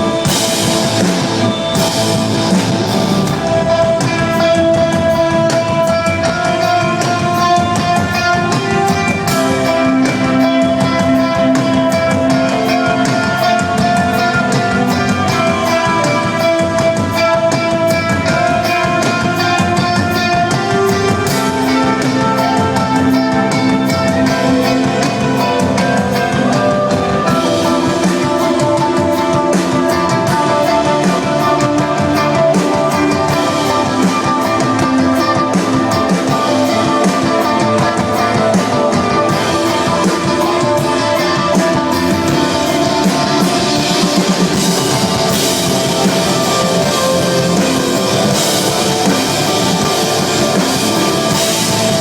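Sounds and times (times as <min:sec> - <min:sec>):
layered electric guitars: 0:00.0 - 0:52.0
steady drum beat: 0:00.0 - 0:52.0.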